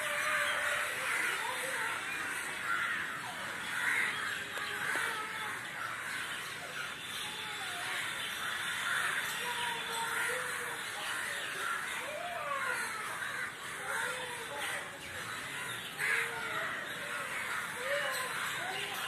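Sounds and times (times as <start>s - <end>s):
flock of crows cawing: 0.0s - 19.0s.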